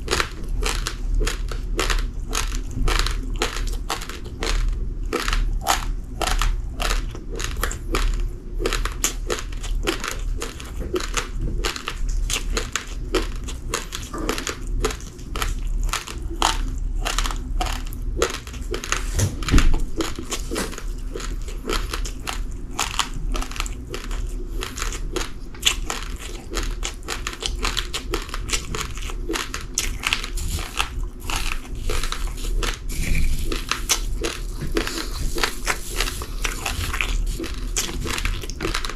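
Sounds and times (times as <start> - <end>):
chewing raw rice crunches: 0.0 - 38.9.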